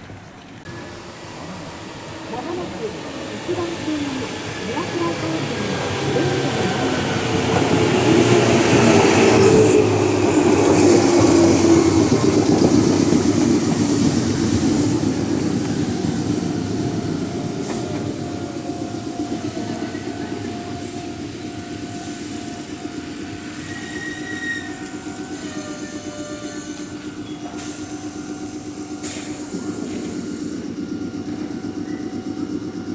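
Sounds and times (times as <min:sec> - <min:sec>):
electric train braking: 0:00.7 - 0:32.9.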